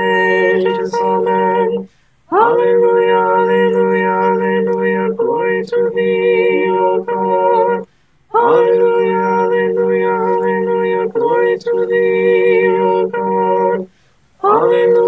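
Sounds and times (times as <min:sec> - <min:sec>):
a cappella liturgical chant: 0:00.0 - 0:15.0.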